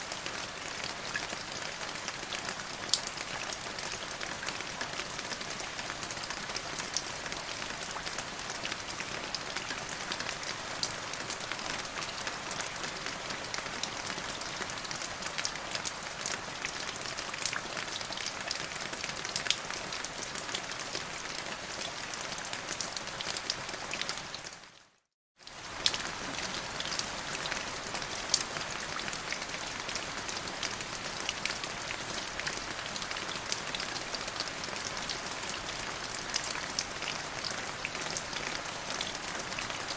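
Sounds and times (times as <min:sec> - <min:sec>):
steady rainfall: 0:00.0 - 0:24.8, 0:25.4 - 0:39.9.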